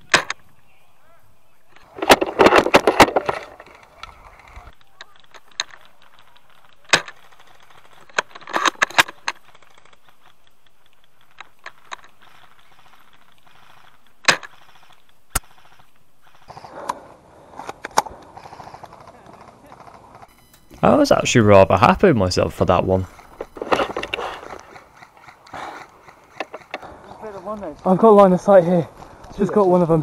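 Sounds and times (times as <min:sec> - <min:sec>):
rustling of grass and gear: 0:00.0 - 0:16.7, 0:17.4 - 0:30.0.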